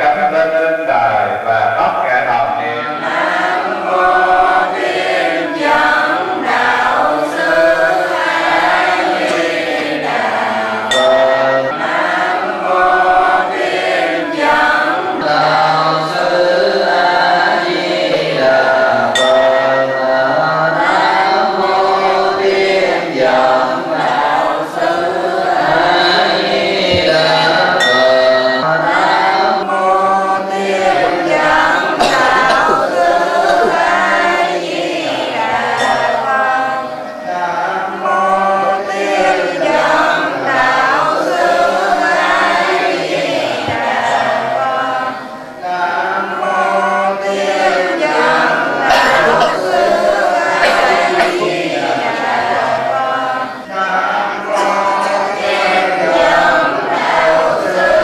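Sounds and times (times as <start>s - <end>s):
group of voices chanting: 1.4s - 58.0s.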